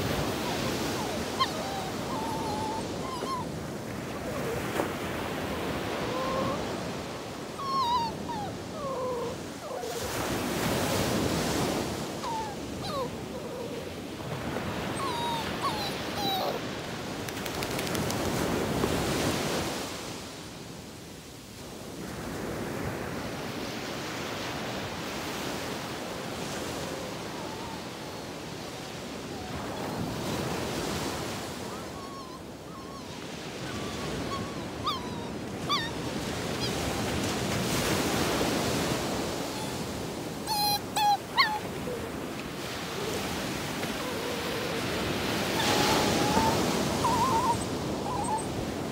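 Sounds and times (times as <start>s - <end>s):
dog whining: 0.0s - 16.8s, 26.4s - 48.9s
ocean waves breaking on beach: 0.0s - 48.9s.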